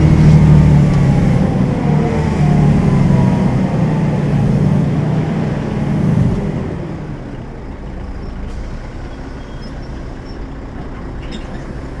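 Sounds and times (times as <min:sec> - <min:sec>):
diesel bus engine: 0:00.0 - 0:12.0.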